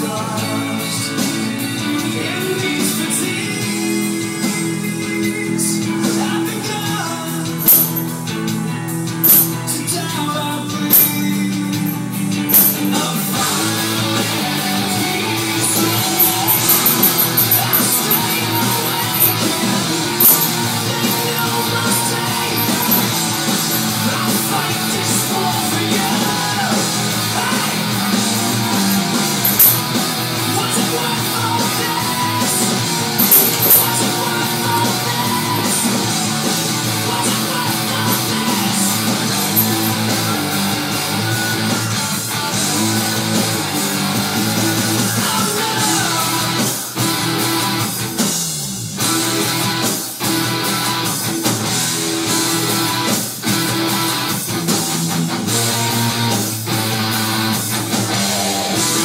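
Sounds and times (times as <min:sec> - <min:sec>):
rock music with guitar and drums: 0:00.0 - 0:59.0.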